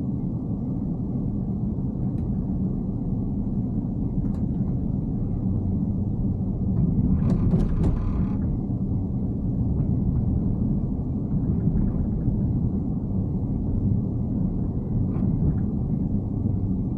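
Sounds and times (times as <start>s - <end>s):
road and tyre rumble: 0.0s - 16.9s.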